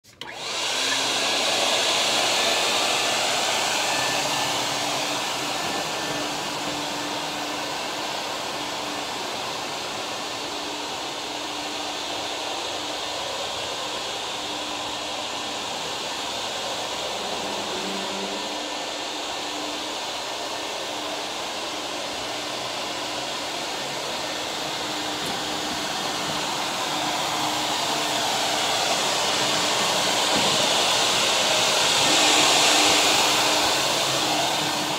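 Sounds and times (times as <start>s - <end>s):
vacuum motor tone: 0.0s - 34.9s
rush of air through floor tool: 0.2s - 34.9s.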